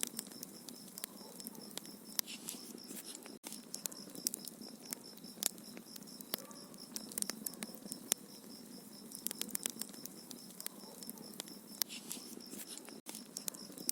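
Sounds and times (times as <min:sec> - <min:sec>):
wood fire crackling and popping: 0:00.0 - 0:13.9.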